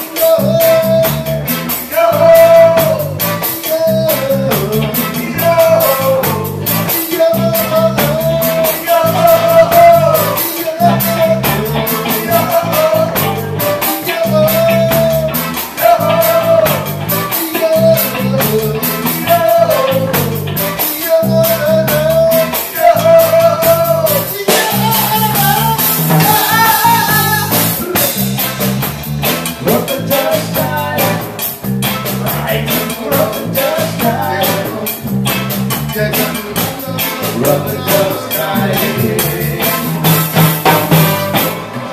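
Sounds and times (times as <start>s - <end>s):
man singing: 0.0s - 41.5s
live reggae band playing: 0.0s - 41.9s.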